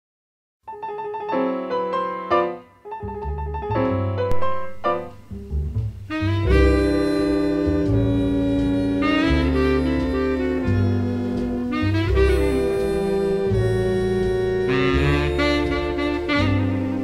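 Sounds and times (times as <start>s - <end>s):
sustained music sound: 2.8s - 17.0s
bass line: 3.0s - 17.0s.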